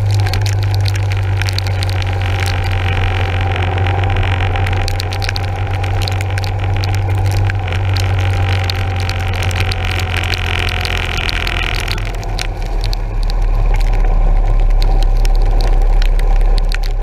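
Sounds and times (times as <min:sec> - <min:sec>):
sharp clicks: 0:00.0 - 0:17.0
tyre spray on wet road: 0:00.0 - 0:17.0.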